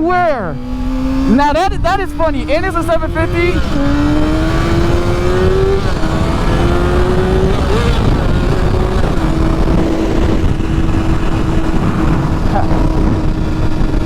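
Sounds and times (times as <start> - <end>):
motorcycle engine accelerating: 0.0 - 14.0
wind noise on microphone: 0.0 - 14.0.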